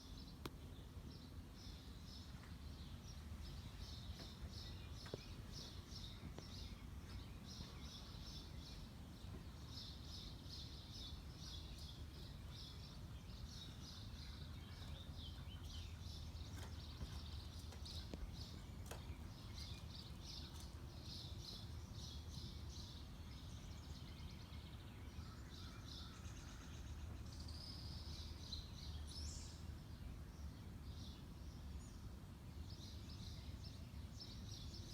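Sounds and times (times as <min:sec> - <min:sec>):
low background rumble: 0:00.0 - 0:34.8
small birds chirping: 0:00.0 - 0:34.9.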